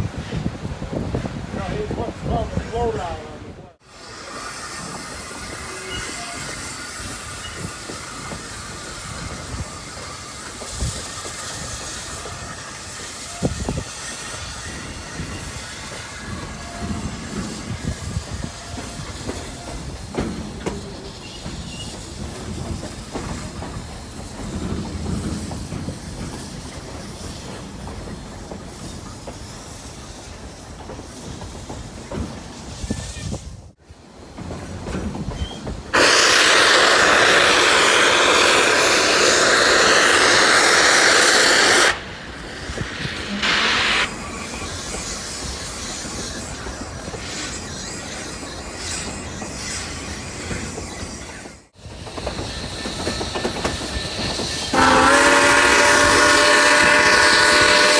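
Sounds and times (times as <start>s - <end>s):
steam hissing from locomotive: 3.8s - 33.8s, 34.7s - 57.9s
train wheels clattering: 4.0s - 57.9s.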